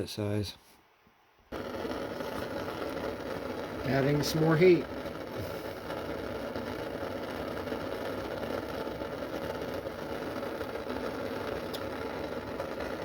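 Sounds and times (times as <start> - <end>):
gas torch burning: 1.5 - 13.0.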